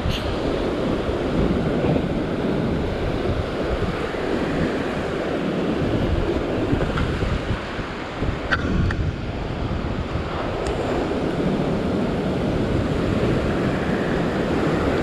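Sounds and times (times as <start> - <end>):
surf churning over rocks: 0.0 - 15.0
wind buffeting microphone: 0.0 - 15.0.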